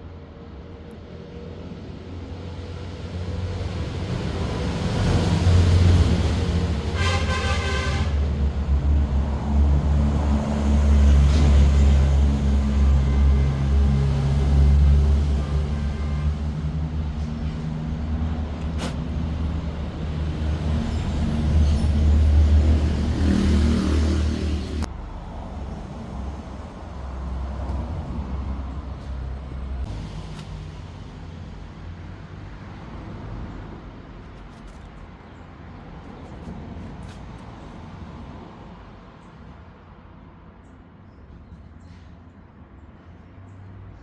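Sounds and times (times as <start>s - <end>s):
vehicle engine rumbling: 2.2s - 37.8s.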